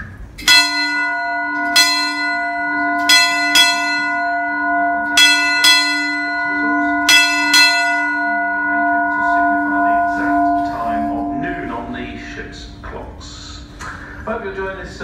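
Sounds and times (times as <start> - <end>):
ship's bell ringing: 0.4 - 13.2.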